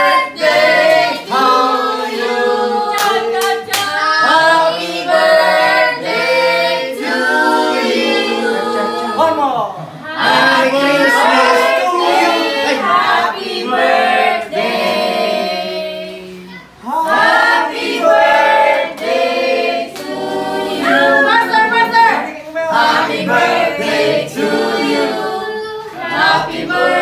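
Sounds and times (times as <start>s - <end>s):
group singing unaccompanied: 0.0s - 27.0s.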